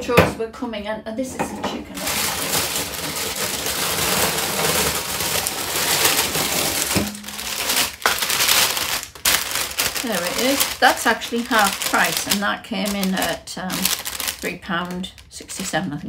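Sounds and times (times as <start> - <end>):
plastic packaging crinkling: 1.9 - 16.0.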